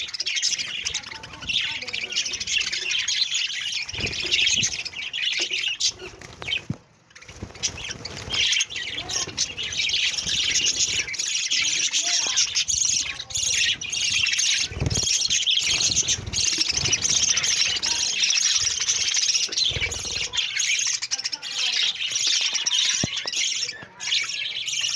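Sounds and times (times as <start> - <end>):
budgerigars chattering: 0.0 - 24.9.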